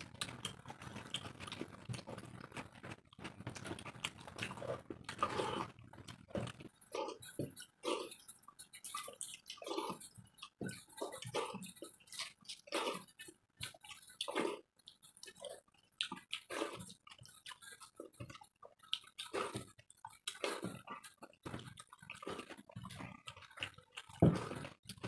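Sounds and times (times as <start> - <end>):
person chewing: 0.0 - 25.0.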